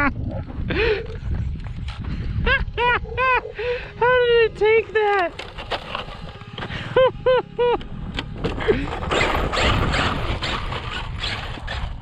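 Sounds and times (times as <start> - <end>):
electric motor whining: 1.0 - 12.0.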